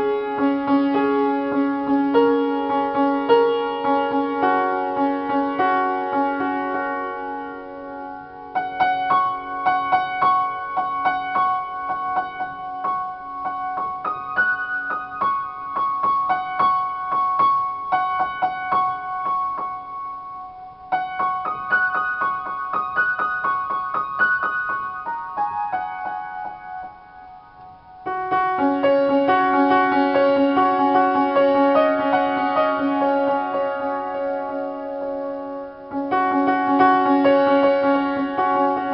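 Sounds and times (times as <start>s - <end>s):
upright piano improvisation: 0.0s - 38.9s.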